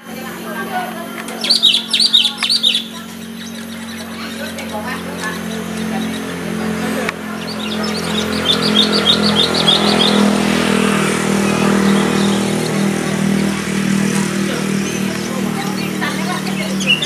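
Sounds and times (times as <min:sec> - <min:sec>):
low engine hum: 0:00.0 - 0:17.0
songbird chirps: 0:00.0 - 0:17.0.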